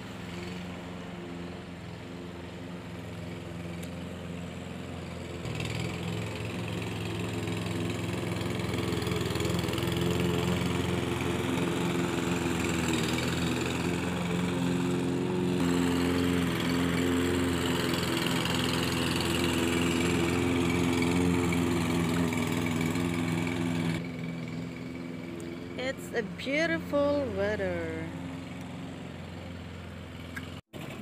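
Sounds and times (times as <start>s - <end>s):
lawn mower engine mowing grass: 0.0s - 31.0s.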